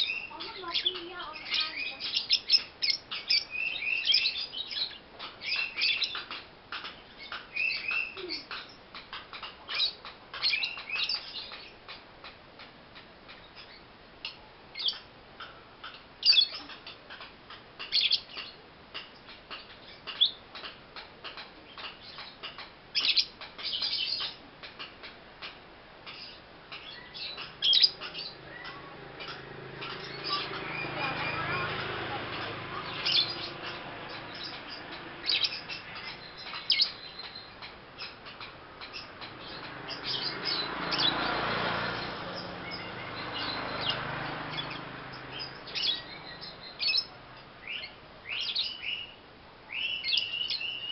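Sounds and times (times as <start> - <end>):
young lovebird chirping: 0.0 - 11.8, 15.8 - 17.2, 17.8 - 18.6, 21.3 - 24.4, 26.1 - 50.9.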